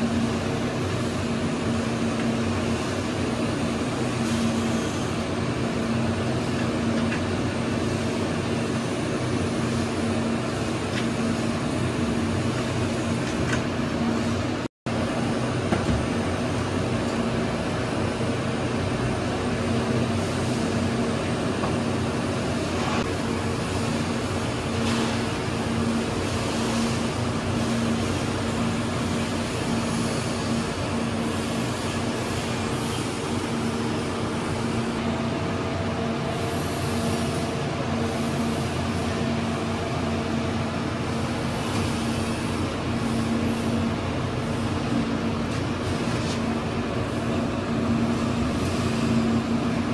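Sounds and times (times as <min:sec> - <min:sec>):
equipment humming and hissing: 0:00.0 - 0:49.9.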